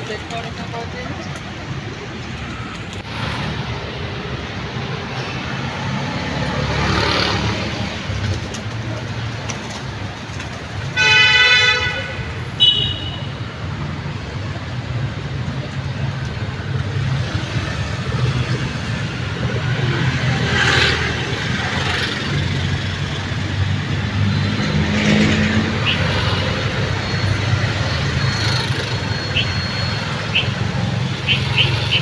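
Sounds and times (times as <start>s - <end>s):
traffic engine and tyre rumble: 0.0s - 32.0s
vehicles passing close: 0.0s - 32.0s.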